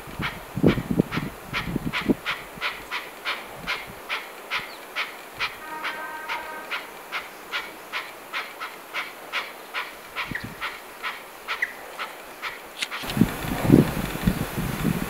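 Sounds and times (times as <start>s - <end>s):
partridge chuck calls: 0.2s - 13.1s.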